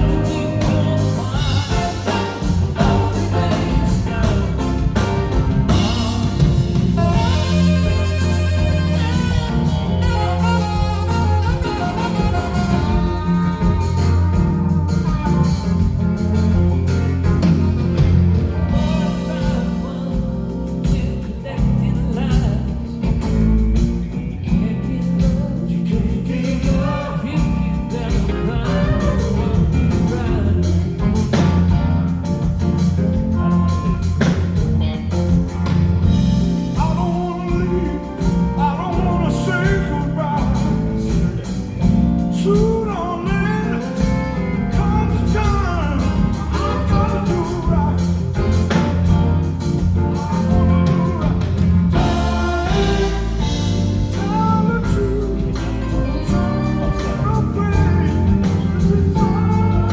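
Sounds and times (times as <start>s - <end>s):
man singing: 0.0s - 16.7s, 17.4s - 59.9s
soft-rock band playing: 0.0s - 59.9s.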